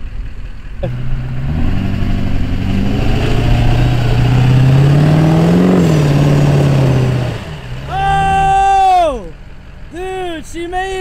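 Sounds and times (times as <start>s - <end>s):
diesel truck engine revving: 0.6s - 10.0s.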